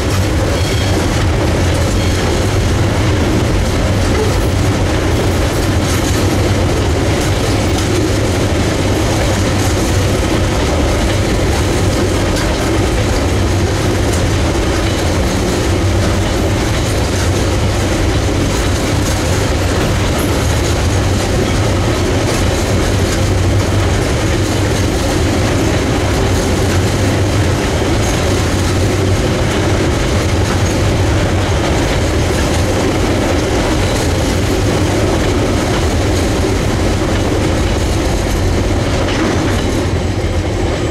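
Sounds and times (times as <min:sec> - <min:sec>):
freight train wheels rumbling on rails: 0:00.0 - 0:40.9.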